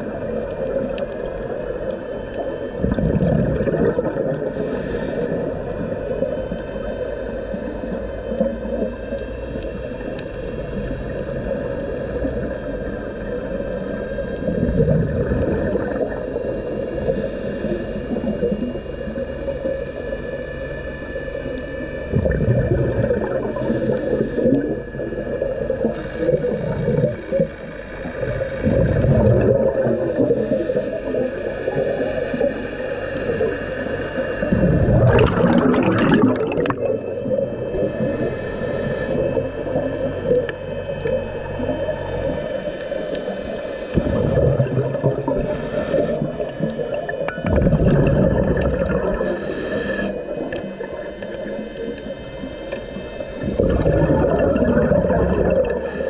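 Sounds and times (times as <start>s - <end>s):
exhaled bubbles gurgling: 0.0s - 56.0s
steady underwater noise: 0.0s - 56.0s
diver breathing through regulator: 2.0s - 56.0s.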